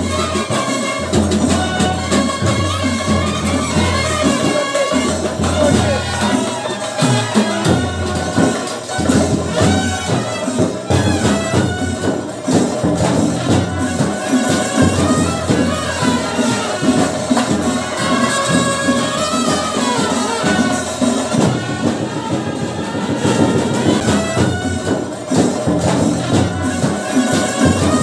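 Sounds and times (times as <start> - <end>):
melody over dense percussion: 0.0 - 28.0.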